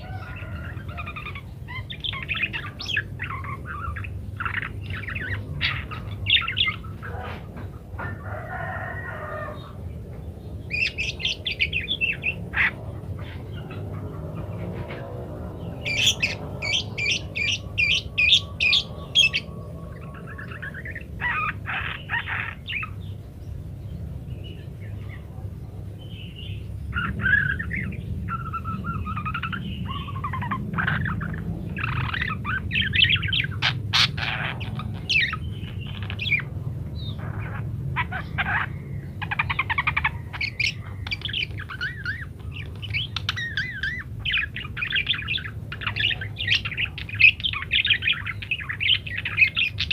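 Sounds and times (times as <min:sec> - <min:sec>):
budgerigars chattering and chirping: 0:00.0 - 0:49.9
steady low hum: 0:00.0 - 0:49.9.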